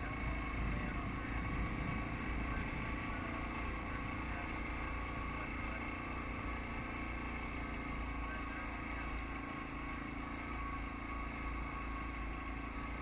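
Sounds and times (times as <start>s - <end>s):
atv engine running under load: 0.0s - 13.0s.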